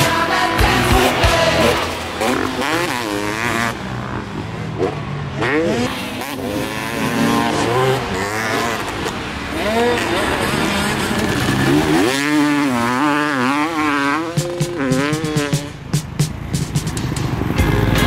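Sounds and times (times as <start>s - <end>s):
motocross engine revving: 0.0s - 18.0s.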